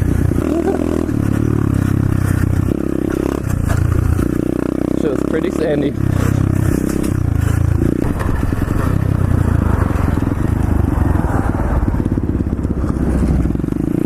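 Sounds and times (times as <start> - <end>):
motorbike engine running: 0.0 - 14.0.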